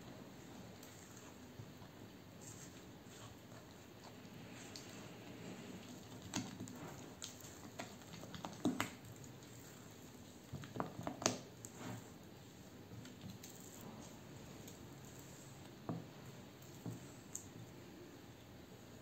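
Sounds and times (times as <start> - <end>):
spatula stirring thick batter: 0.0 - 19.0.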